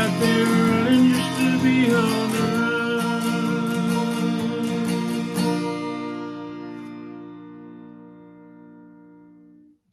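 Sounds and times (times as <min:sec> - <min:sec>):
guitar chord ringing: 0:00.0 - 0:09.6.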